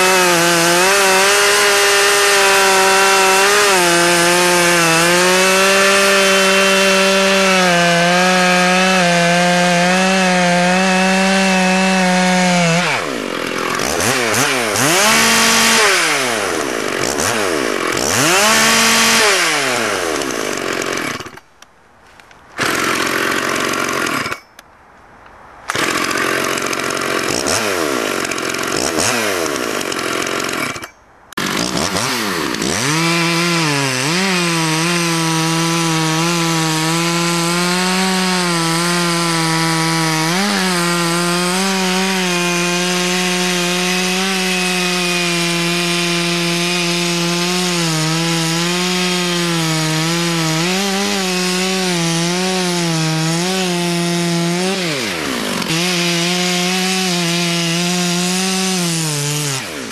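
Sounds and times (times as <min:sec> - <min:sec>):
chainsaw revving: 0:00.0 - 0:21.4, 0:22.6 - 0:24.4, 0:25.7 - 0:59.9
chainsaw cutting through log: 0:00.0 - 0:21.5, 0:22.6 - 0:24.5, 0:25.7 - 0:59.9.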